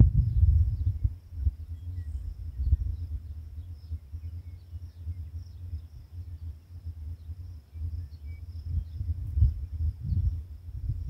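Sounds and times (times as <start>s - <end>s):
wind buffeting microphone: 0.0s - 11.0s
faint bird chirps: 0.2s - 11.0s
high insect trill: 0.2s - 11.0s.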